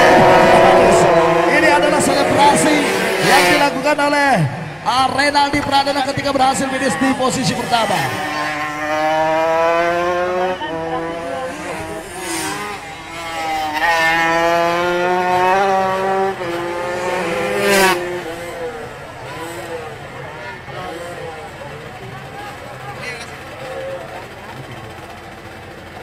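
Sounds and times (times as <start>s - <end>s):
motorcycles accelerating: 0.0s - 26.0s.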